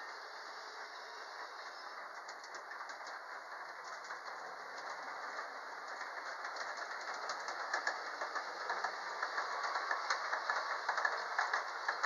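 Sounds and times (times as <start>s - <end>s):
model train wheels rattling on track: 0.0s - 12.0s.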